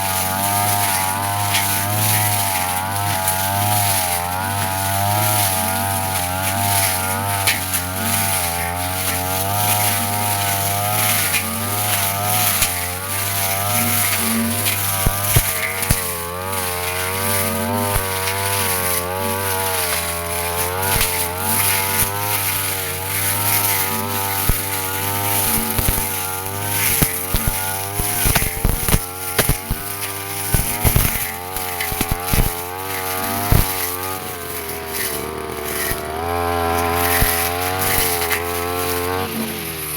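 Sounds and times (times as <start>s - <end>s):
blade clicking on stems: 0.0s - 39.9s
brush cutter engine running: 0.0s - 39.9s.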